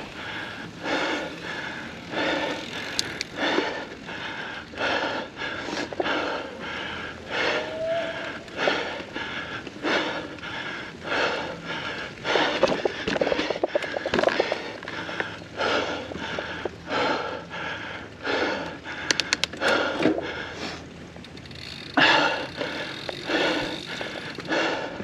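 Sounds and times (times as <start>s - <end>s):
person breathing hard: 0.0s - 21.1s, 22.0s - 25.0s.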